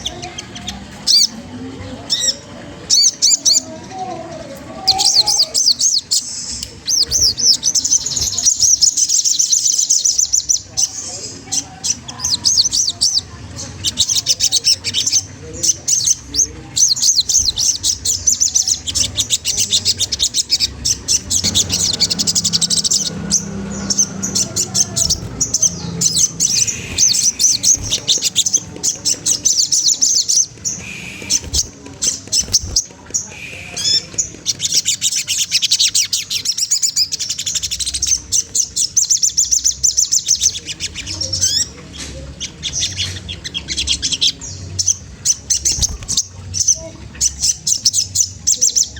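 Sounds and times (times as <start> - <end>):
songbird chattering trill: 4.8 - 48.9.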